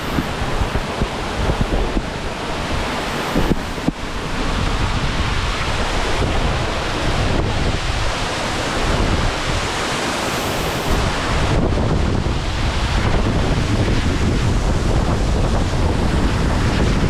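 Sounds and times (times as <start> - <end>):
waterfall roaring: 0.0 - 17.0
wind buffeting microphone: 0.0 - 17.0.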